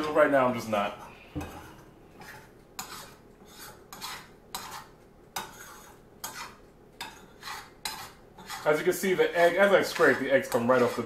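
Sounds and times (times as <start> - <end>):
spoon scraping frying pan: 0.0 - 11.0.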